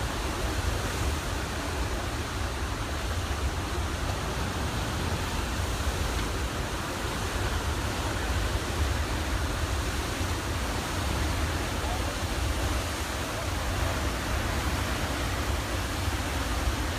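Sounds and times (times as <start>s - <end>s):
floodwater rushing from dam outlet: 0.0s - 16.9s
whitewater churning: 0.0s - 16.9s.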